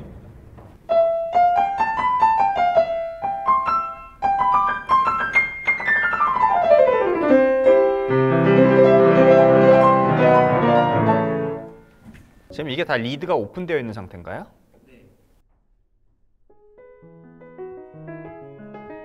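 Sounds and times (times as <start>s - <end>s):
grand piano playing: 0.0s - 13.3s, 16.5s - 19.0s.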